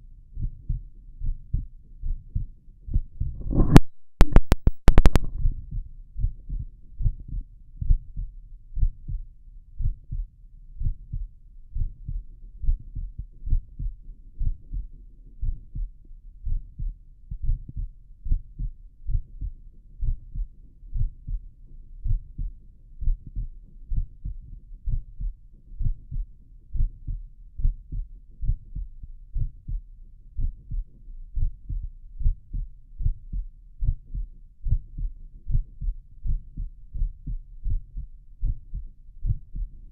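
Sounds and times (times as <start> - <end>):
heartbeat through stethoscope: 0.3 - 39.9.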